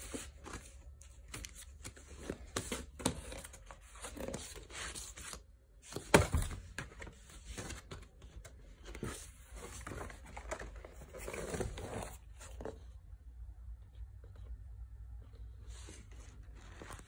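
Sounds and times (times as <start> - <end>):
paper rustling and crinkling: 0.0 - 12.8, 15.7 - 17.0.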